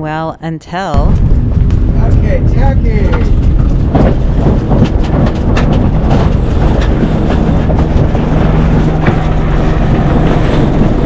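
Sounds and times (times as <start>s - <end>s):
strong wind buffeting microphone: 1.0s - 11.0s.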